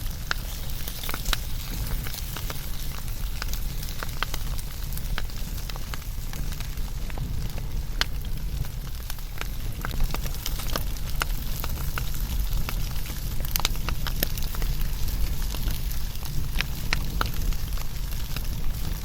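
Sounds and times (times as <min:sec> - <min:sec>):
burning wood crackling: 0:00.0 - 0:19.0
low rumble of flames: 0:00.0 - 0:19.0.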